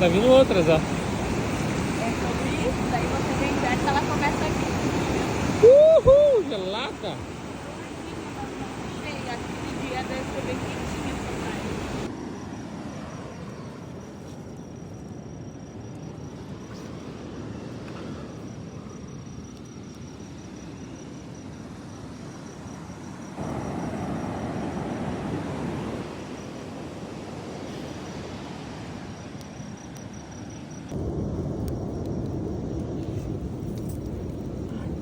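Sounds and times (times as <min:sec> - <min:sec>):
ocean surf washing up beach: 0:00.0 - 0:14.1, 0:20.5 - 0:35.0.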